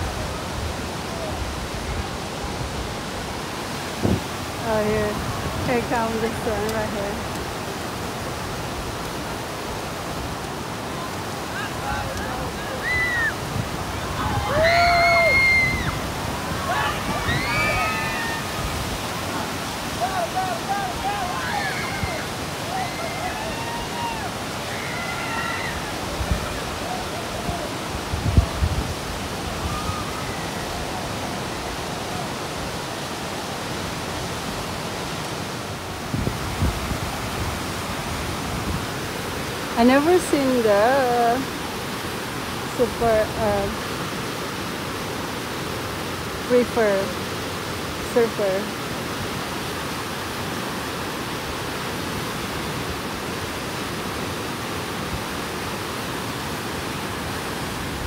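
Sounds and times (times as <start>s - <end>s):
whitewater rapids rushing: 0.0s - 58.0s.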